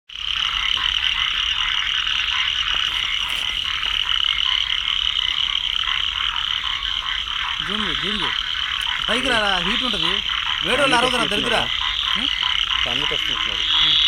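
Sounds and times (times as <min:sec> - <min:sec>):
frogs trilling chorus: 0:00.1 - 0:14.0.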